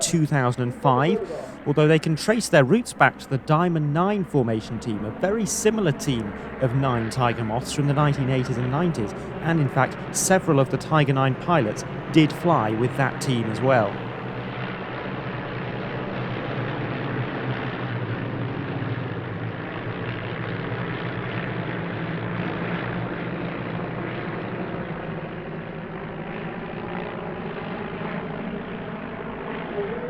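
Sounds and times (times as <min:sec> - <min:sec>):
propeller plane engines droning: 0:00.0 - 0:30.0.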